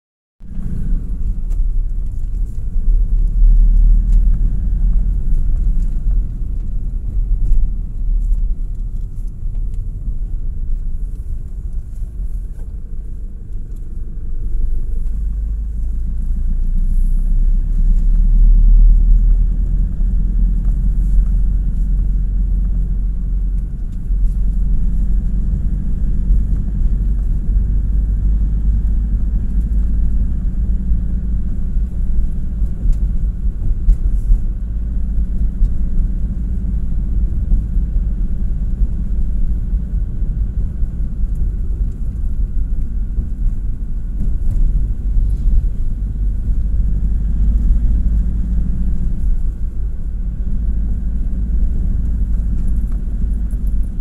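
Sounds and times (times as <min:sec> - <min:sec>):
vehicle driving on concrete road: 0:00.4 - 0:54.0.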